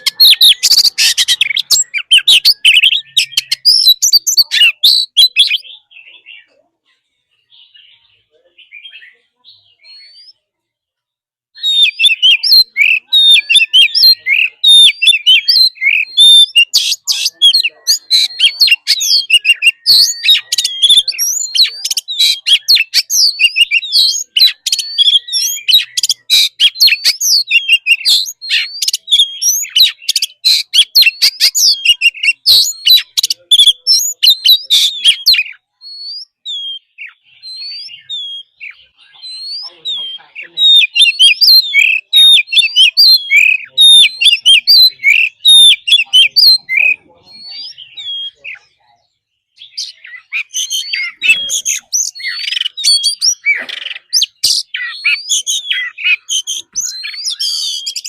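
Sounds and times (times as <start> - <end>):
bird singing whistles and chirps: 0.0 - 6.6, 7.5 - 10.4, 11.6 - 58.0.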